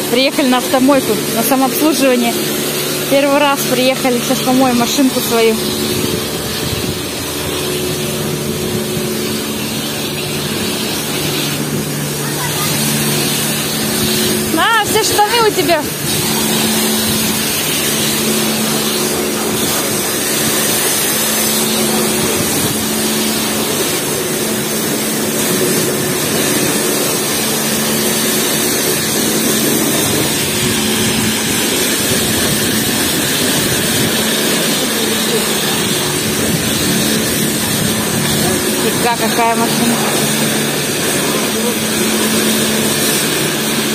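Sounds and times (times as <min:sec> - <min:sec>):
low machine hum: 0:00.0 - 0:43.9
pressure washer spray hiss: 0:00.1 - 0:43.9.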